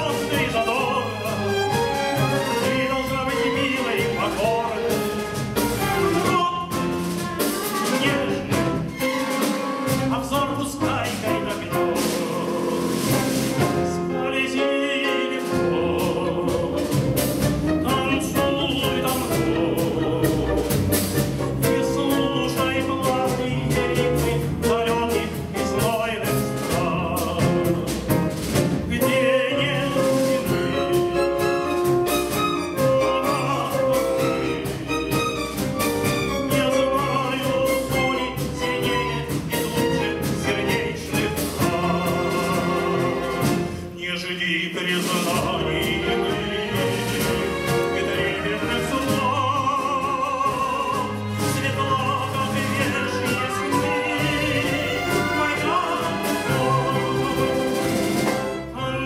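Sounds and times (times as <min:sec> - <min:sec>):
man singing with vibrato: 0:00.0 - 0:05.2, 0:05.8 - 0:07.1, 0:07.8 - 0:08.8, 0:10.0 - 0:17.1, 0:17.8 - 0:21.0, 0:21.6 - 0:28.2, 0:28.9 - 0:31.6, 0:32.2 - 0:34.7, 0:36.2 - 0:59.0
string and piano orchestra: 0:00.0 - 0:59.0.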